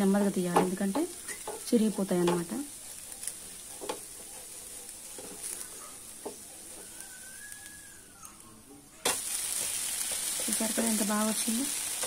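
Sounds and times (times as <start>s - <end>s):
batter sizzling on a pan: 0.0s - 8.0s, 9.0s - 12.0s.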